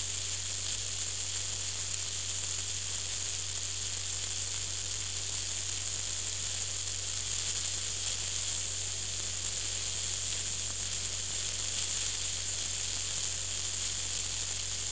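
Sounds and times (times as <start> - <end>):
vehicle road noise hiss: 0.0 - 14.9.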